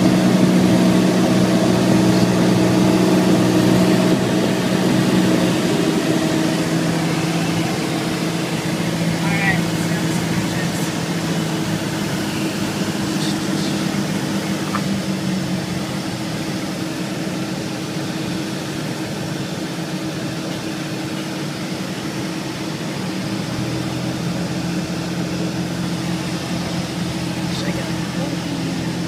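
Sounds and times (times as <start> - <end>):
airplane engine and propeller drone: 0.0 - 29.0.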